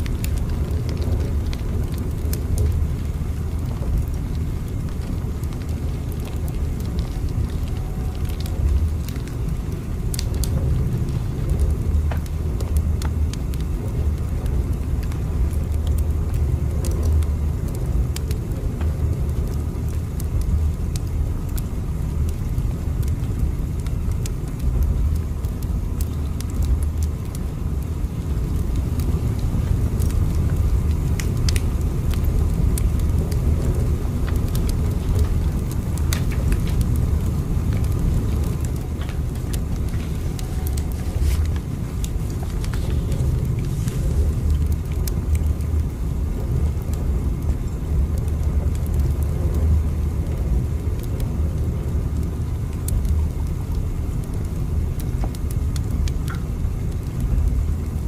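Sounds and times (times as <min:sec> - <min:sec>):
light clicks and crackles: 0:00.0 - 0:58.0.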